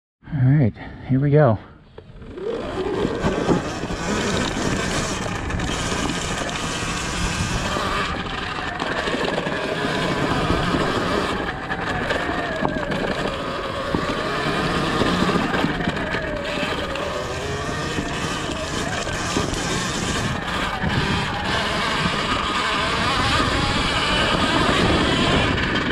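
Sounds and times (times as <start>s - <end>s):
electric motor whine: 2.0s - 25.9s
tyres rumbling on dirt and rocks: 2.1s - 25.9s.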